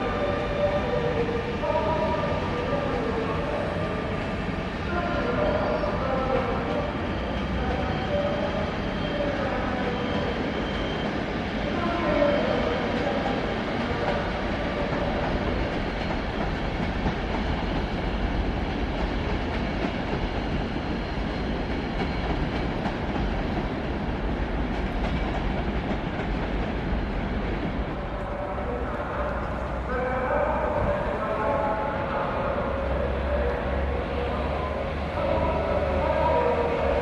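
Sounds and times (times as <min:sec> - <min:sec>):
train wheels on rails: 0:00.0 - 0:37.0.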